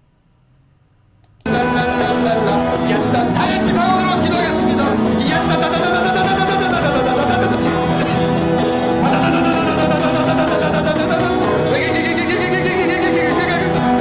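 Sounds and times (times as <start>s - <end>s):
worship music with guitar: 1.4s - 14.0s
voices singing and praying: 1.5s - 8.2s, 9.0s - 14.0s.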